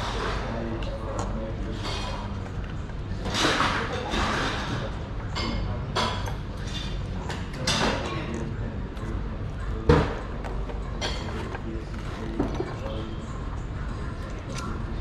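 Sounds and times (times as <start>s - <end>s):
indistinct chatter of voices: 0.0s - 15.0s.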